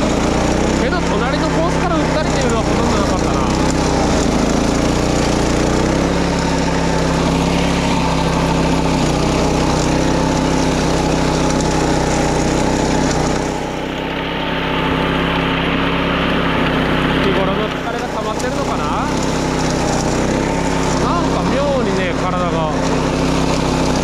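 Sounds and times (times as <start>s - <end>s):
small mower engine running: 0.0s - 24.0s.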